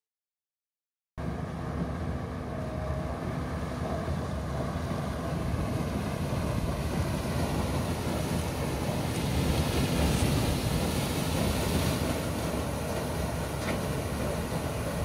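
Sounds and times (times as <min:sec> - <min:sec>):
combine harvester engine and threshing: 0:01.2 - 0:15.0.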